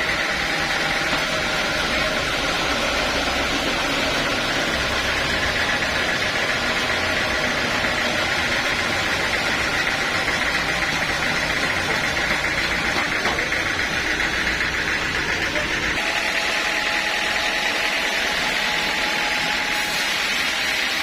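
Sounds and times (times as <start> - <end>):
high machine whine: 0.0 - 21.0
sawmill machinery drone: 0.0 - 21.0.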